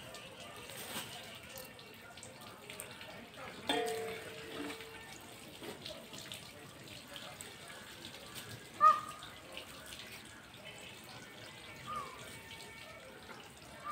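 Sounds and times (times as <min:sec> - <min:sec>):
water splashing into a pot: 0:00.1 - 0:13.9.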